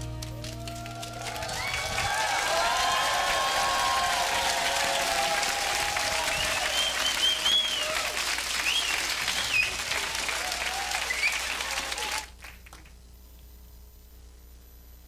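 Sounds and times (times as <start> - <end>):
crowd applauding and cheering: 0.0 - 12.9
faint steady hum: 0.0 - 15.0.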